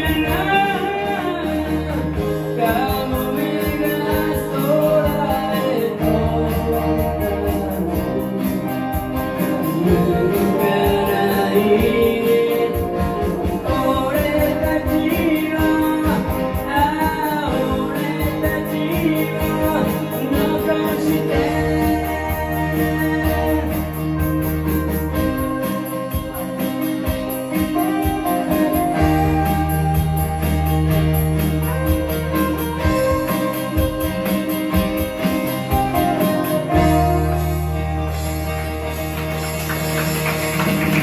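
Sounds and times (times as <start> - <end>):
person singing: 0.0 - 38.1
live band playing pop song: 0.0 - 41.0.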